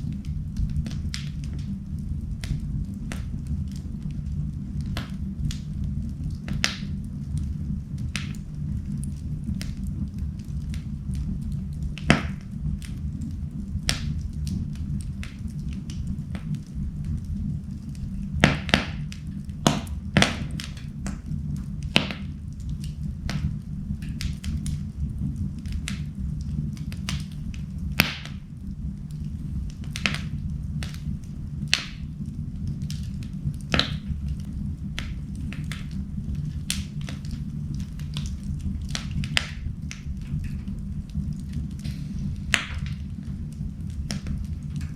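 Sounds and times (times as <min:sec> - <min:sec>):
fire crackling and popping: 0:00.0 - 0:44.9
fire low rumble: 0:00.0 - 0:44.9.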